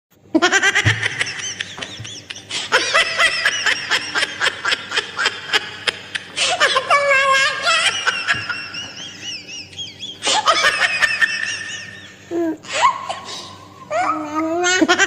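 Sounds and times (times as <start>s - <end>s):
high-pitched laughter: 0.4s - 15.0s.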